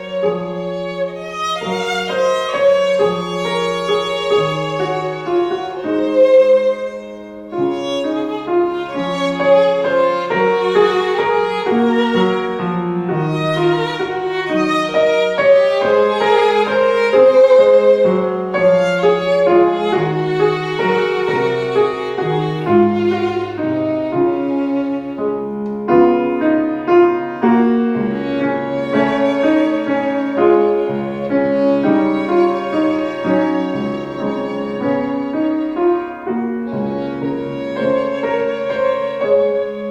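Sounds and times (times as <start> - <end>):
piano accompaniment: 0.0 - 39.9
violin melody: 0.0 - 39.9.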